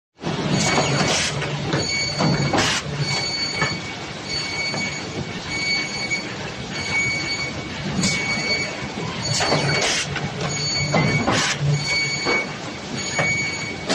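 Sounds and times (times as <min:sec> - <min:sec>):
machine mechanical clatter: 0:00.2 - 0:05.5, 0:07.7 - 0:13.9
high machine whine: 0:00.2 - 0:13.9.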